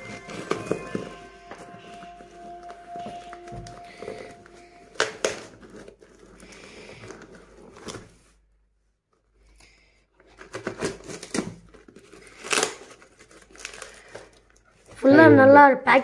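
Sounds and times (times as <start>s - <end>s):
paper and tape rustling and tearing: 0.0s - 8.4s, 9.4s - 15.1s.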